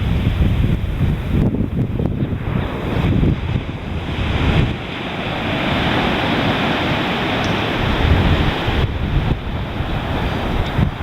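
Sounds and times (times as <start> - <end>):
ocean surf washing on beach: 0.0 - 11.0
wind gusting on microphone: 0.0 - 11.0.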